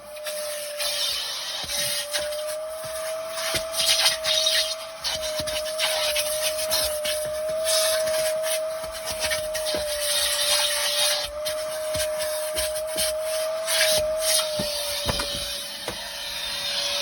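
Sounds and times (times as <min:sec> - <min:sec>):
nozzle scraping car interior: 0:00.0 - 0:17.0
vacuum cleaner whining: 0:00.0 - 0:17.0.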